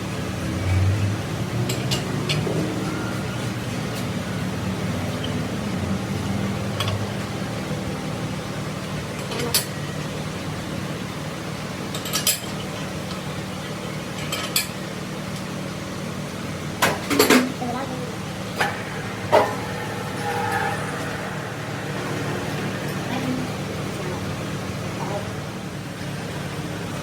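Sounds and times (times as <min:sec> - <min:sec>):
low machine hum: 0:00.0 - 0:26.6.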